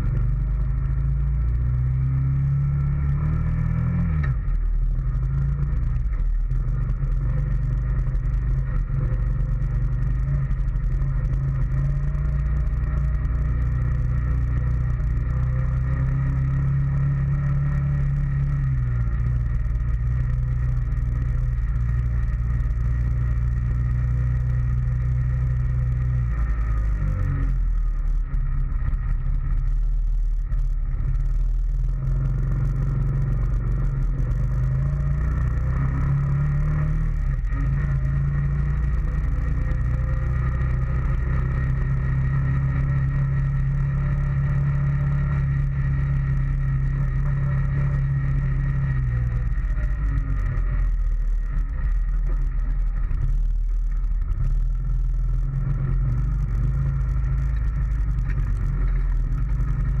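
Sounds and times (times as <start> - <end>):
atv engine running: 0.0 - 60.0.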